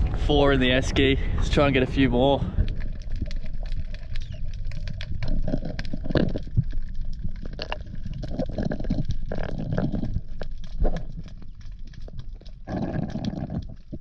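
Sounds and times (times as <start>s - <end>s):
gurgling bubbles: 0.0s - 14.0s
muffled underwater rumble: 0.0s - 14.0s
crackle of small clicks: 2.6s - 14.0s.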